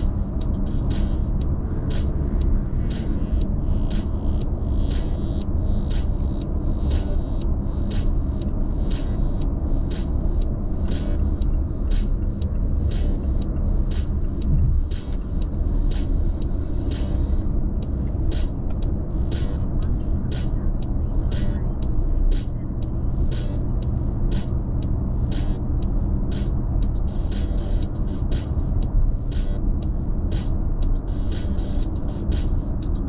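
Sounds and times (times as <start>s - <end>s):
background music beat: 0.0s - 33.0s
road and tyre rumble: 0.0s - 33.0s.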